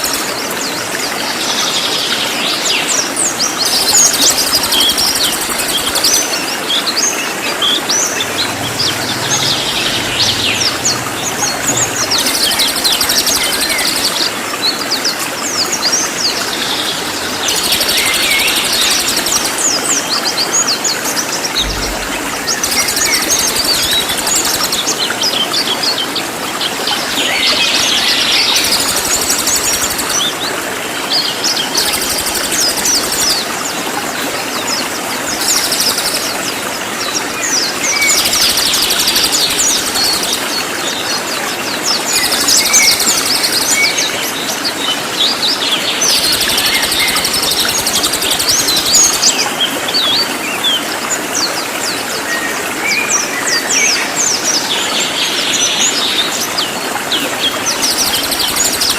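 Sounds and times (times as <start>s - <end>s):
bird chirps and trills: 2.5s - 33.7s, 34.6s - 50.8s.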